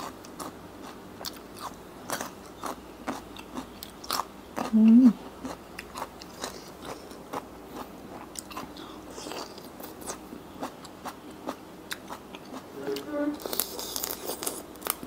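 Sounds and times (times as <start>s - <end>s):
close chewing with crunches: 0.0s - 12.7s, 13.4s - 15.0s.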